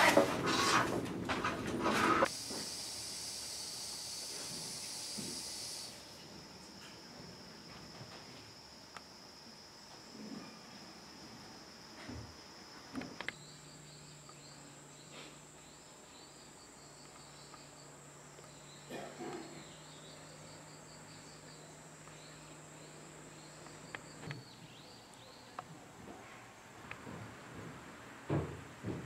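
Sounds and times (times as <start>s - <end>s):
steady high whine: 2.2s - 25.8s
insect chirping trills: 2.3s - 25.6s.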